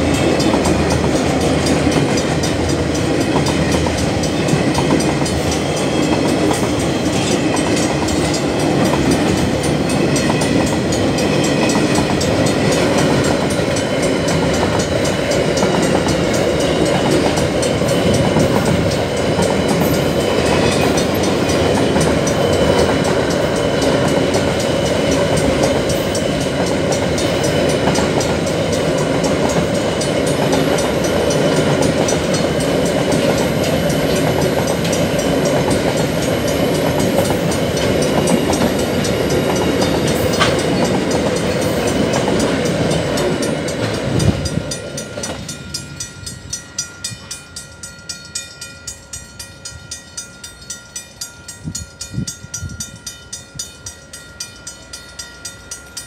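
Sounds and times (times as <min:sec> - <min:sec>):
train wheels clacking over rails: 0:00.0 - 0:50.9
crossing bells ringing: 0:00.0 - 0:56.0
freight train wagons rattling: 0:00.0 - 0:56.0.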